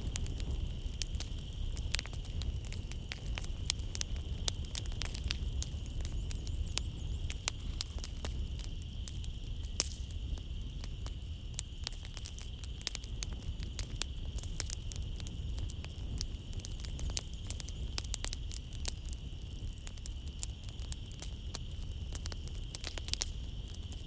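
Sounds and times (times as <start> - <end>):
night insects chirring: 0.0 - 24.0
wood fire crackling: 0.0 - 24.0.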